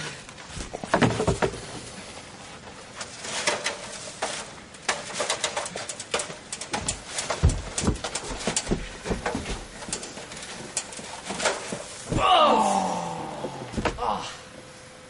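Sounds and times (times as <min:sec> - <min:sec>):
person climbing metal ladder: 0:00.0 - 0:14.3.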